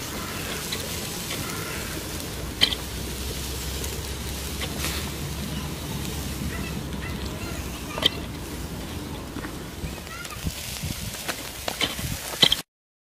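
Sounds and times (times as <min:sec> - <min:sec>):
meat sizzling over charcoal grill: 0:00.0 - 0:12.7
sharp crackle: 0:00.0 - 0:12.7.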